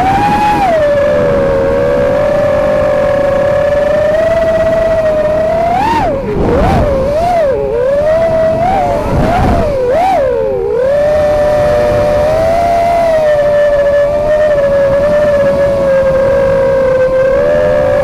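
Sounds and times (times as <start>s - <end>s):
drone motors whining: 0.0s - 18.0s
wind noise: 0.0s - 18.0s.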